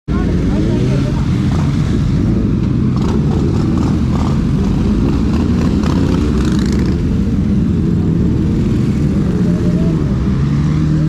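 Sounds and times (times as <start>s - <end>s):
road and wind noise: 0.1s - 11.0s.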